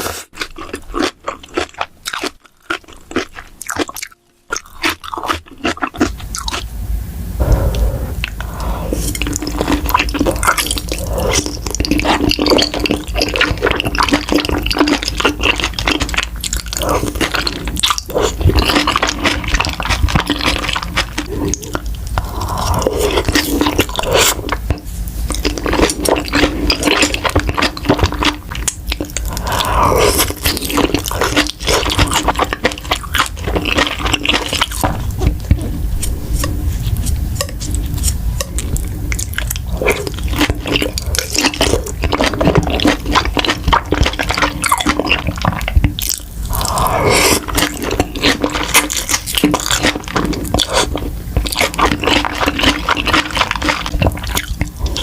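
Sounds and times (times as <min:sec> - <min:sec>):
wet chewing: 0:00.0 - 0:06.6, 0:07.5 - 0:55.0.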